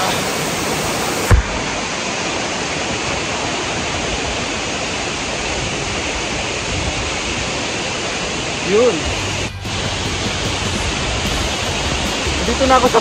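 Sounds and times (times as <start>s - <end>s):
waterfall rushing hiss: 0.0s - 13.0s.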